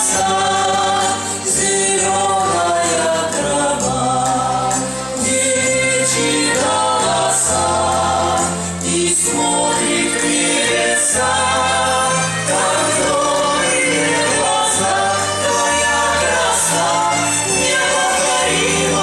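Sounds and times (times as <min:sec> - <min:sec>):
dance music with choir: 0:00.0 - 0:19.0.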